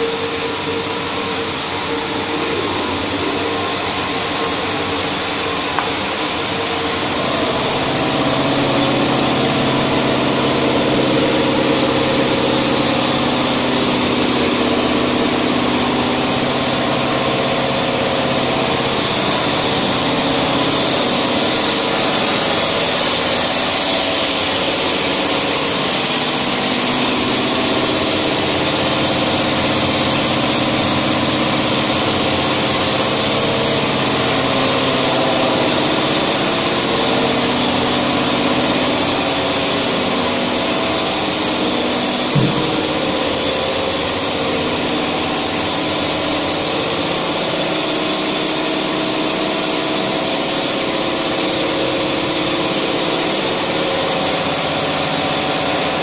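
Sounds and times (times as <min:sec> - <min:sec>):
factory machinery humming: 0:00.0 - 0:56.0.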